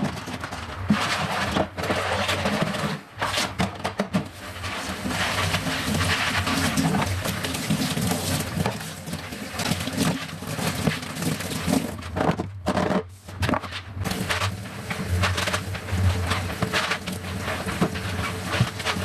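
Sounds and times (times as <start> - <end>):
scraping and rubbing: 0.0 - 19.0.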